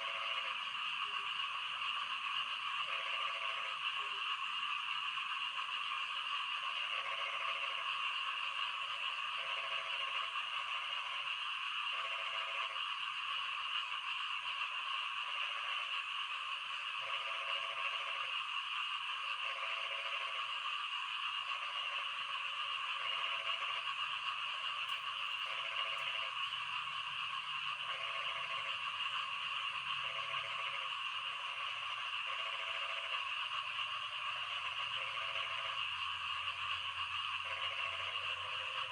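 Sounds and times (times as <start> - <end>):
deep frog croak: 0.0 - 38.9
frogs chorus: 0.0 - 38.9.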